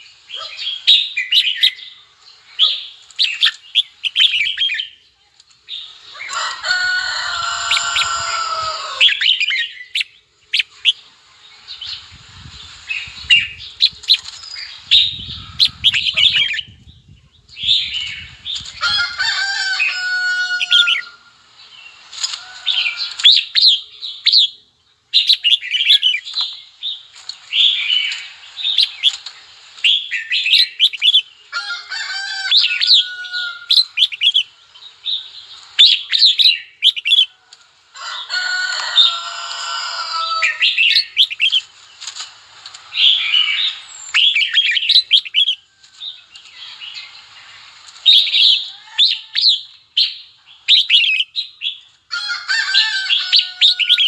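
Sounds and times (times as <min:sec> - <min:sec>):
birds chirping: 0:00.0 - 0:37.4, 0:38.0 - 0:52.0, 0:52.6 - 0:54.0
long full bird calls: 0:00.0 - 0:54.0.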